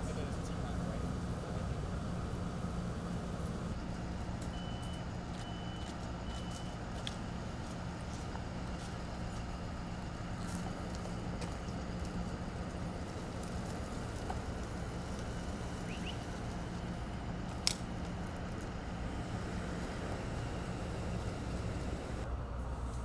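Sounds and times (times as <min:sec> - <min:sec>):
idling train humming: 0:00.0 - 0:23.0.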